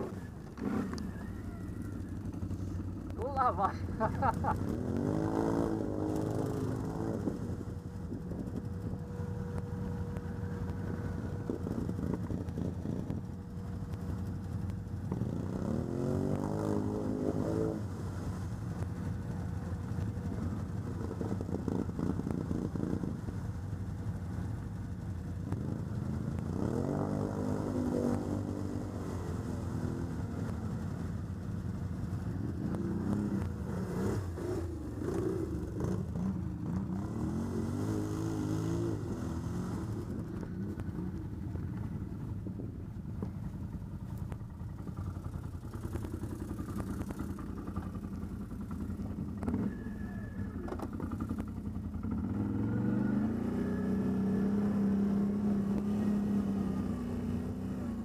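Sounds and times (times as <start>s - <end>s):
atv engine revving: 0.0s - 24.6s, 25.3s - 42.6s, 44.3s - 58.0s.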